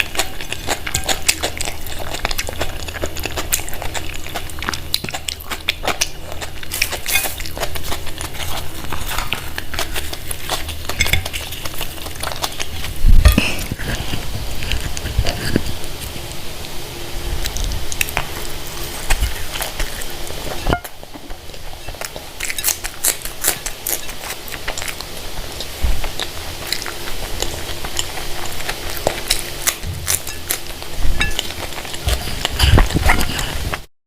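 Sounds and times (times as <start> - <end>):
person chewing food: 0.0 - 33.9.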